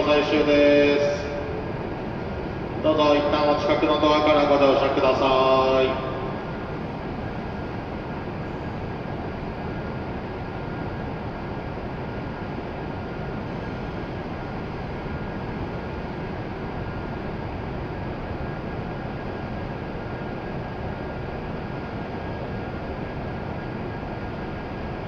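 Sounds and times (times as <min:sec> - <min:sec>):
rushing hum of train platform: 0:00.0 - 0:25.0.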